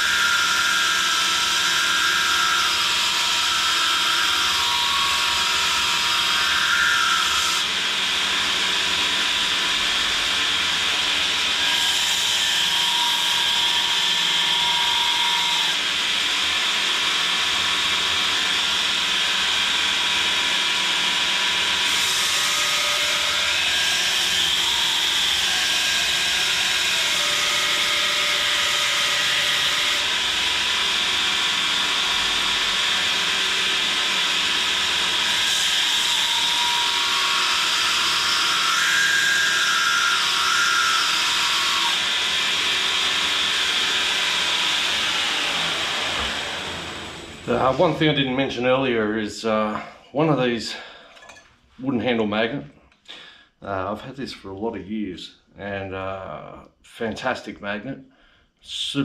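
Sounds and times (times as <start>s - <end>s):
belt grinder grinding steel: 0.0s - 47.9s.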